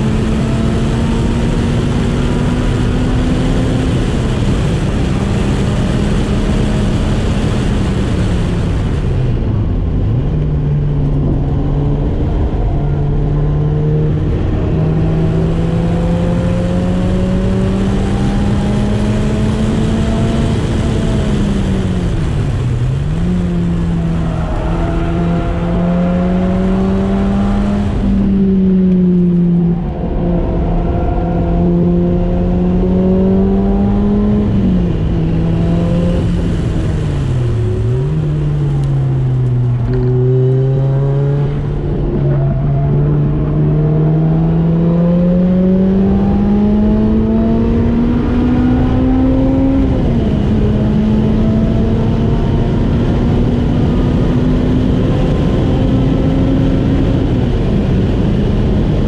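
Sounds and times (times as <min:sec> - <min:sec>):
car engine driven hard: 0:00.0 - 0:59.0
wind and road noise: 0:00.0 - 0:59.0.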